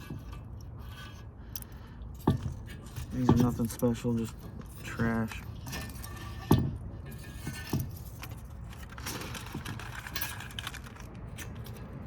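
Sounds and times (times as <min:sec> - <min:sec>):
metal parts clinking and rattling: 0:00.0 - 0:12.0.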